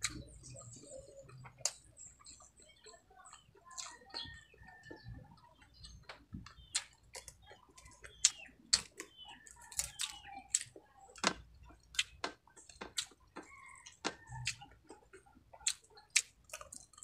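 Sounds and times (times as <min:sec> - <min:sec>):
crunchy chewing of shells: 0:00.0 - 0:17.0.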